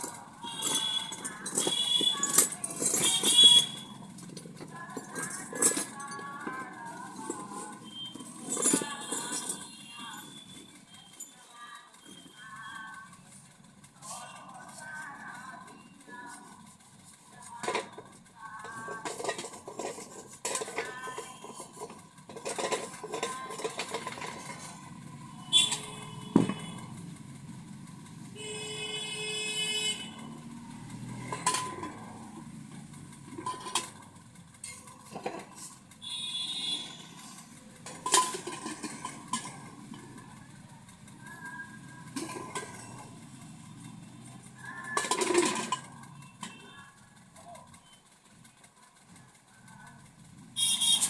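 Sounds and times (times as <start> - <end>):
metal clinking and knocking: 0.0 - 13.9, 14.6 - 48.4.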